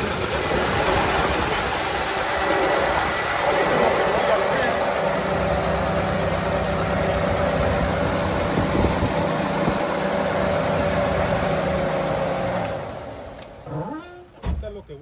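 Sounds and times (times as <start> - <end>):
truck engine idling: 0.0 - 13.6.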